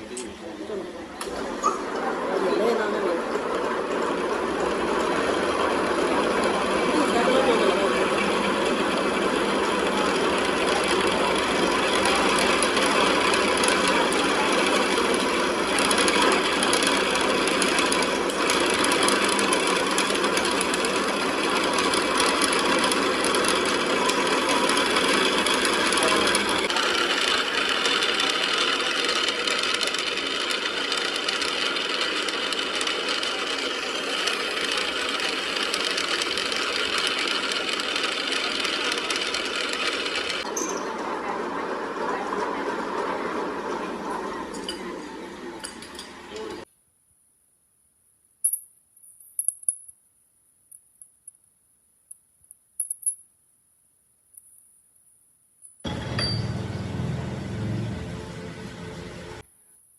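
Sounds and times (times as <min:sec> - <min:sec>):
workshop machinery running: 0:00.0 - 0:46.7, 0:55.8 - 0:59.4.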